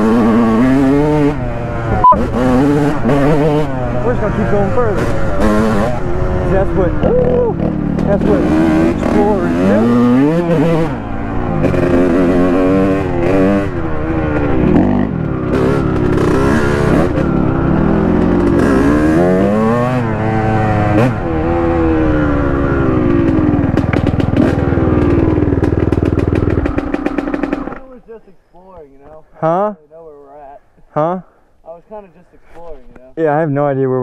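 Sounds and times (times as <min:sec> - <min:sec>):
dirt bike engine revving: 0:00.0 - 0:28.1.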